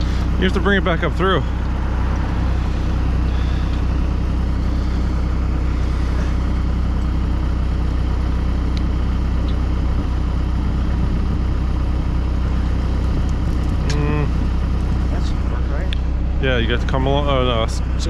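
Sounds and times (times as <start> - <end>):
heavy equipment engine idling: 0.0 - 18.0.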